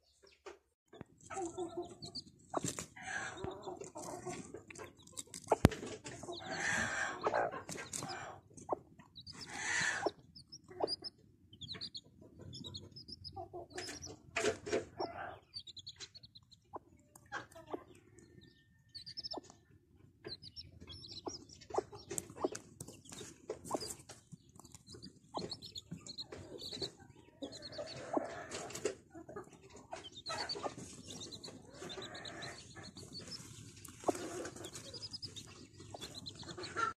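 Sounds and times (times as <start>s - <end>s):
chicks peeping: 0.1s - 36.9s
hen clucking: 0.2s - 36.9s.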